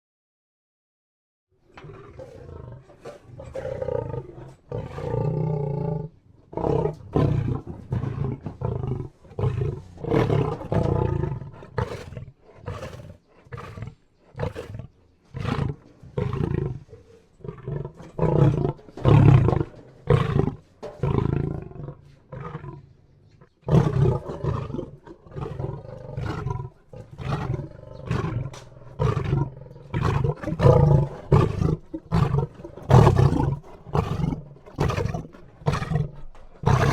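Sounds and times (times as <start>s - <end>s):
lion roaring: 1.7s - 36.9s.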